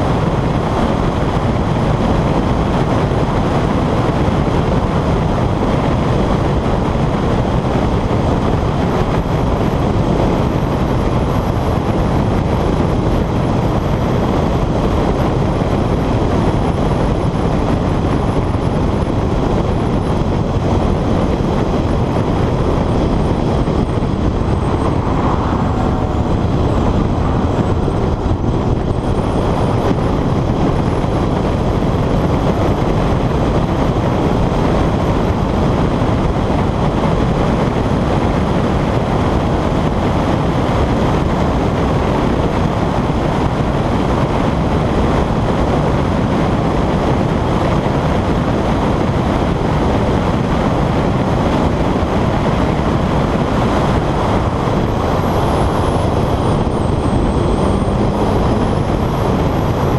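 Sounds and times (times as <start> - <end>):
car engine: 0.0 - 59.9
road noise: 0.0 - 59.9
wind buffeting microphone: 0.0 - 59.9.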